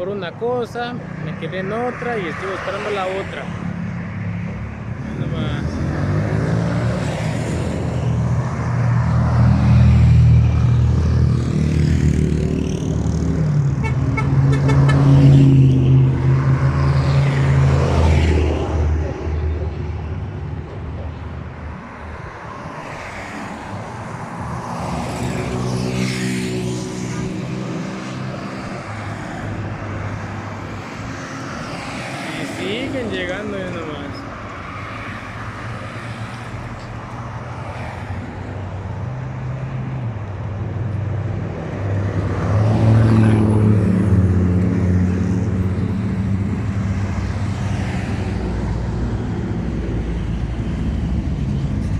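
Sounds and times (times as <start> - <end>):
trucks driving past: 0.0 - 51.9.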